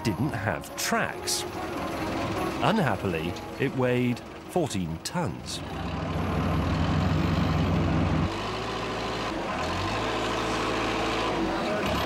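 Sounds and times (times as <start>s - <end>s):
crane diesel engine working hard: 0.6s - 12.0s.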